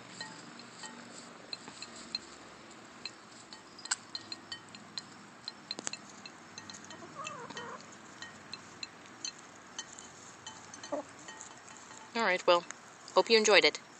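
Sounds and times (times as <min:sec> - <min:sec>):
hens' beaks tapping: 0:00.0 - 0:13.6.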